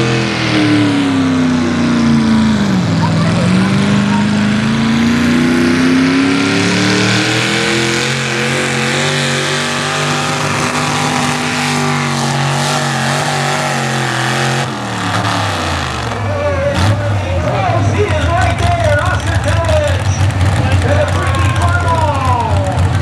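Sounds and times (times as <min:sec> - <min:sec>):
tractor engine at high revs: 0:00.0 - 0:23.0.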